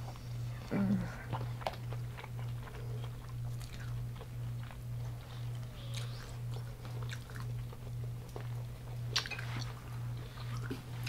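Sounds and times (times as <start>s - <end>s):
crunchy chewing: 0.0s - 11.0s
pulsing low hum: 0.0s - 11.0s.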